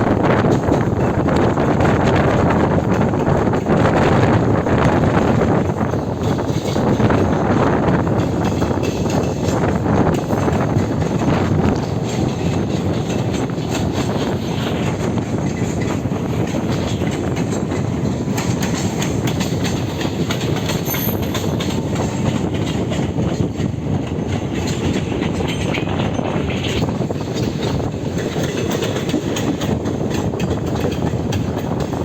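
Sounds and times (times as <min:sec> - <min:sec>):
train running on track: 0:00.0 - 0:32.0
wheels clattering over rail joints: 0:05.2 - 0:32.0.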